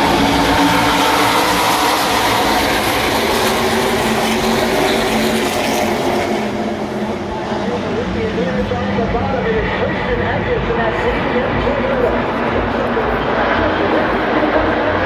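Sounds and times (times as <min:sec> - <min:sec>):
racing engines roaring: 0:00.0 - 0:15.0.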